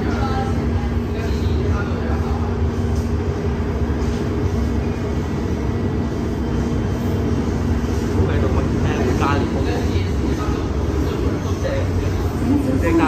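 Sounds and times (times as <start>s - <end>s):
train hum: 0.0s - 13.0s
train wheels rumbling on track: 0.0s - 13.0s.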